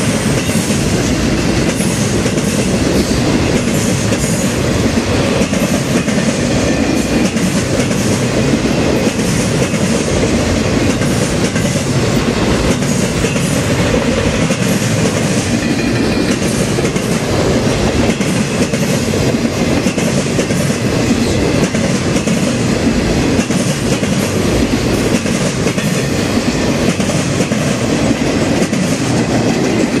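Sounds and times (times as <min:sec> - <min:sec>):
steel wheels rolling on rails: 0:00.0 - 0:30.0.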